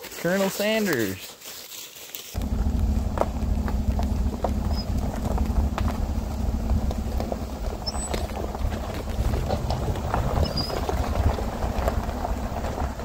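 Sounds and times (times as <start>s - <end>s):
vehicle engine idling: 2.4s - 13.0s.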